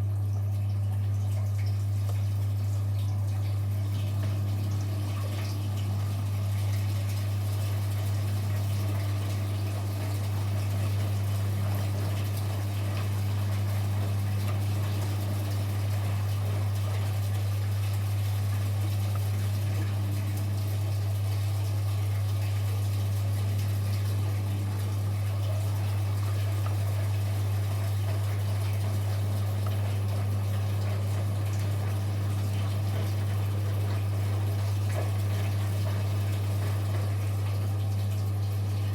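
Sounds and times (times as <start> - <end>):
washing machine hum: 0.0 - 38.9
washing machine water swishing: 0.0 - 38.9.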